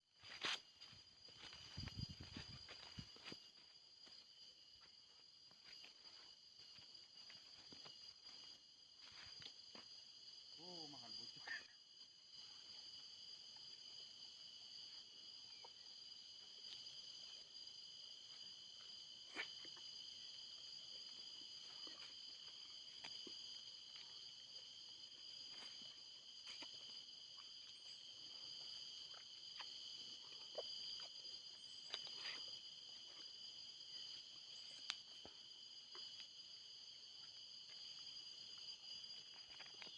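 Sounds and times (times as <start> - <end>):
insect chorus buzzing: 0.1 - 39.9.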